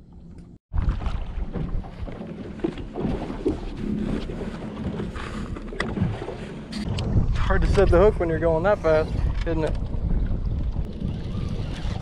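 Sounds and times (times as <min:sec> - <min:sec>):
water rushing along hull: 0:00.8 - 0:12.0
wind buffeting microphone: 0:00.8 - 0:12.0.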